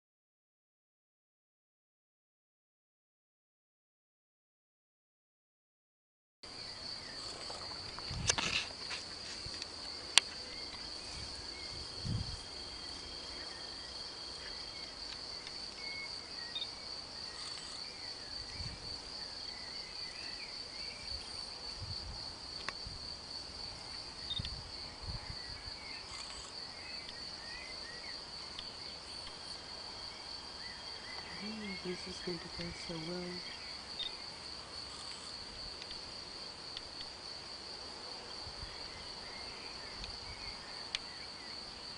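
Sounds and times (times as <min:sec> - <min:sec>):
insect chirring: 0:06.5 - 0:41.9.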